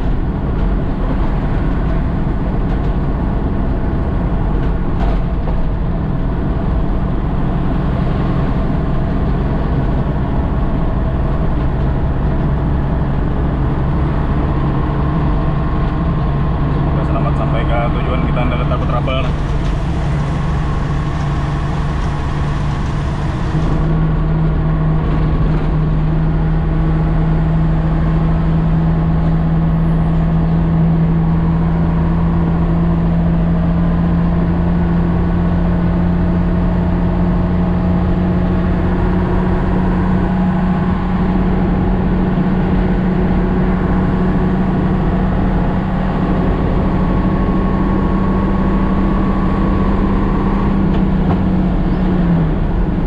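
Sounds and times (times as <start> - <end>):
truck diesel engine droning: 0.0 - 53.0.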